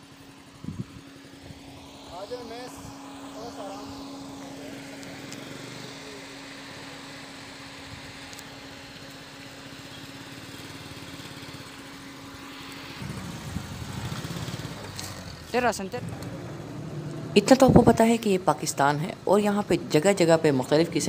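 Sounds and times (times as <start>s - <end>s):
small motorcycle engine running: 0.0s - 21.0s.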